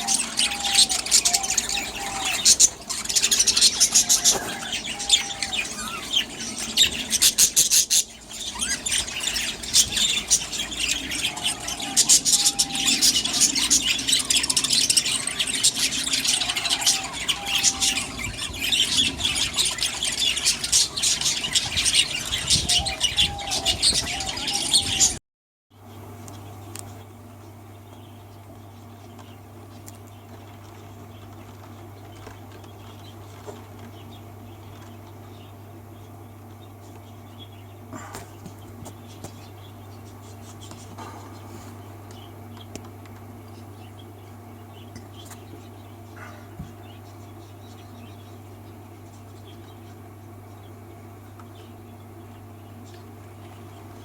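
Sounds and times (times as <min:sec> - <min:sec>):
flock of birds chirping: 0:00.0 - 0:25.2, 0:25.8 - 0:54.0.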